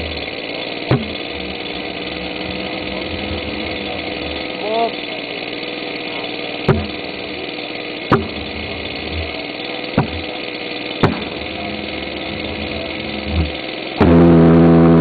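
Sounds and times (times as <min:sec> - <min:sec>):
jet engine idling: 0:00.0 - 0:15.0.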